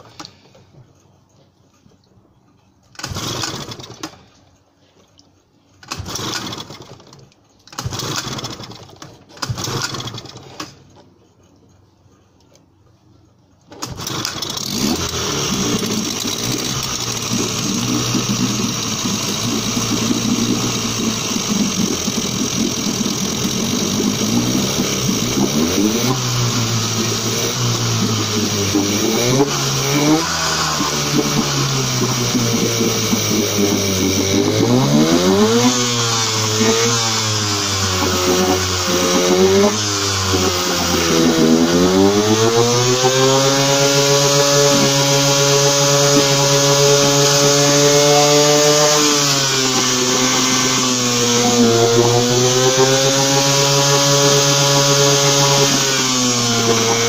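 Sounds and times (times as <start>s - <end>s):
outboard motor starting bursts: 2.9s - 4.6s, 5.8s - 11.0s, 13.7s - 57.0s
outboard motor running: 3.0s - 4.0s, 5.9s - 7.2s, 7.8s - 10.5s, 13.9s - 57.0s.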